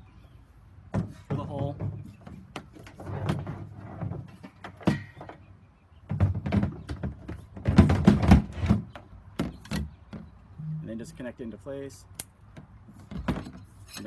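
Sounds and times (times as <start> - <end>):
knocks clunks and rubbing: 0.9 - 11.3, 12.5 - 14.0.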